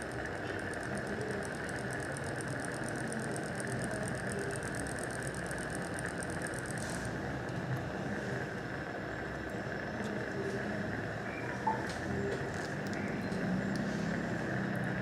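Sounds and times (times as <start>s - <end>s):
rapid mechanical ticking: 0.0s - 15.0s.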